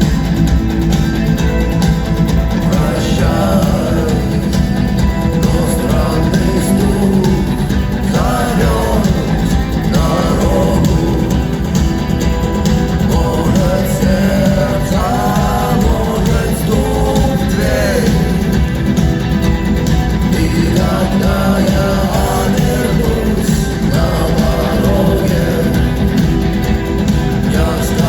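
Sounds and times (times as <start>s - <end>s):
rock song with singing: 0.0s - 28.0s.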